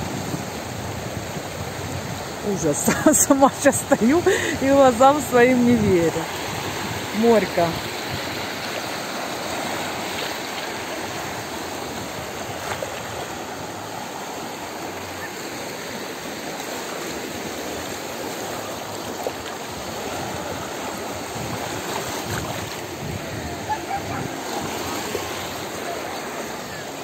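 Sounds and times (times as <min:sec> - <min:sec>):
small waves washing onto beach: 0:00.0 - 0:27.0.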